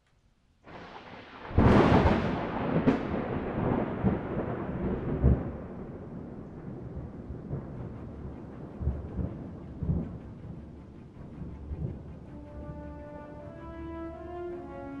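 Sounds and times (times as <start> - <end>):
steady rain: 0.6 - 15.0
thunder rumbling: 0.7 - 15.0
thunderclap: 0.7 - 15.0.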